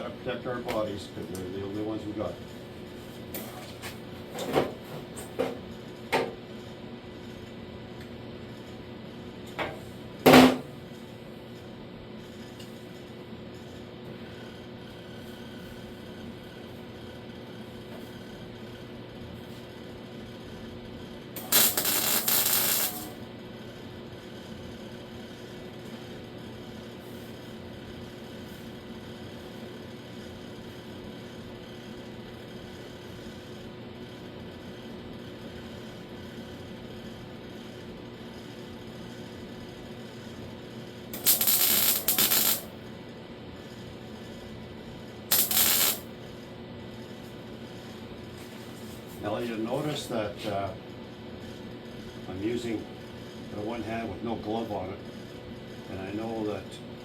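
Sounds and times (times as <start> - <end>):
steady mechanical hum with tones: 0.0 - 57.0.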